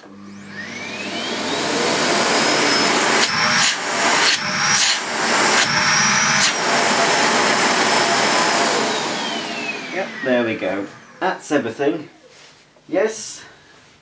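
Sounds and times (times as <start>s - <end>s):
vacuum cleaner motor running: 0.0s - 11.6s.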